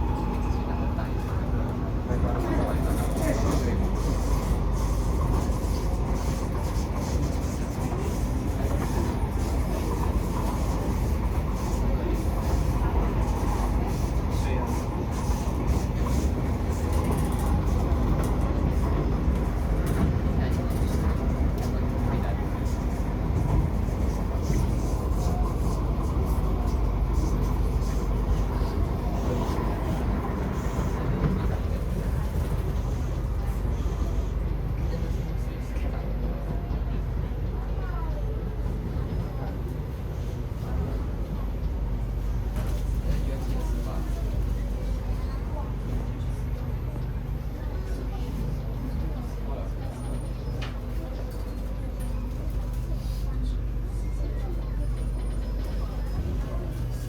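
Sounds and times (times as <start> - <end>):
metro car rumbling on track: 0.0 - 57.0.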